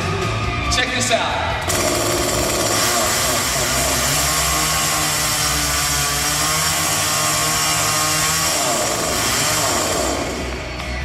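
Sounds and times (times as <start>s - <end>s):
chainsaw engine running: 1.7s - 10.8s.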